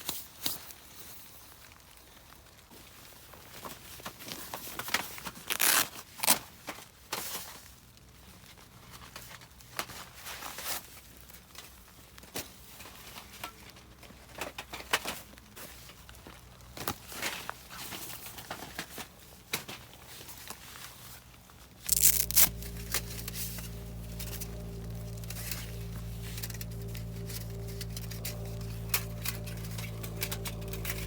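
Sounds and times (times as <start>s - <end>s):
crinkling and rustling: 0.0s - 21.1s, 21.9s - 31.0s.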